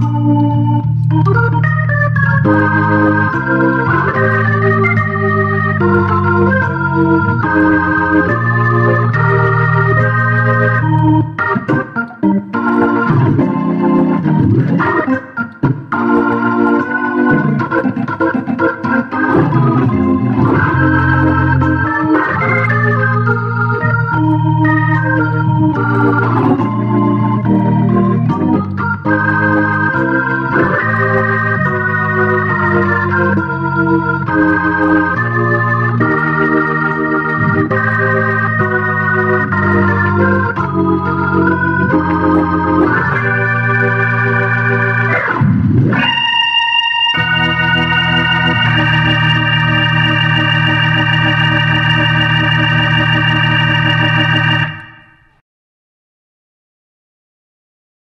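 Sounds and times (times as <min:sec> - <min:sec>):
organ chords: 0:00.0 - 0:55.4.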